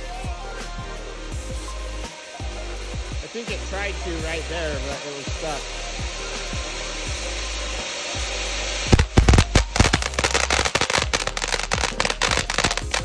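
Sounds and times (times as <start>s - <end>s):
fireworks fountain hissing: 0.0s - 13.0s
fireworks crackling pops: 2.0s - 13.0s.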